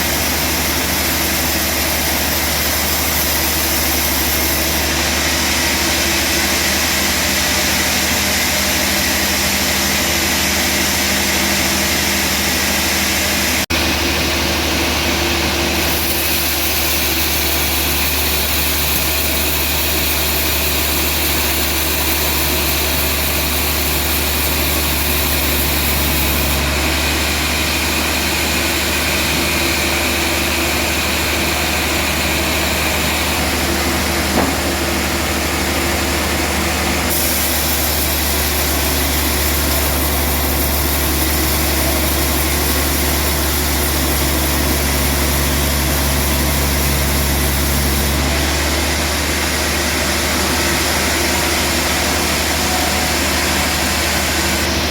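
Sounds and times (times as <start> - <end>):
sawmill engine and saw droning: 0.0 - 54.9.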